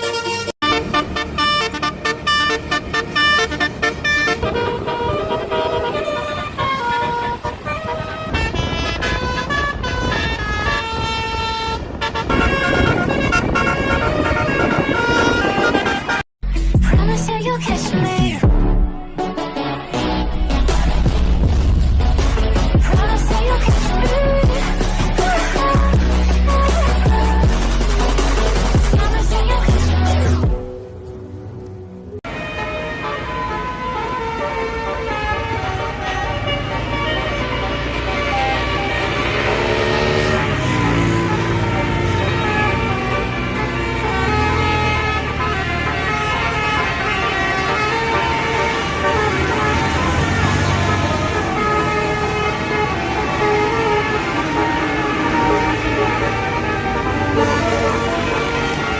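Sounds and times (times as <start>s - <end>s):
musical bus horn: 0.0s - 16.3s, 22.0s - 30.9s, 32.0s - 58.9s
engine and road rumble: 0.0s - 58.9s.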